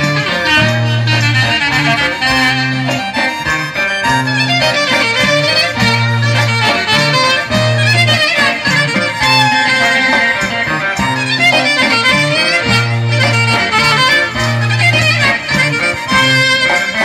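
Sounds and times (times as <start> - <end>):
accordion: 0.0 - 17.0
bass line in held notes: 0.0 - 17.0
violin leading a dance tune: 0.0 - 17.0.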